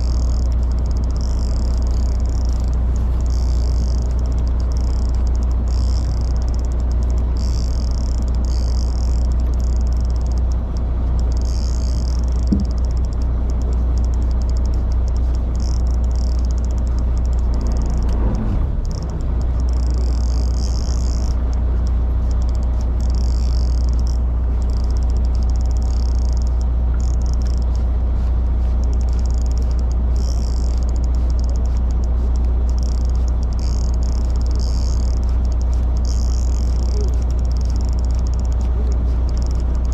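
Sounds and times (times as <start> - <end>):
boat engine drone: 0.0 - 39.9
fishing reel whirring: 0.0 - 39.9.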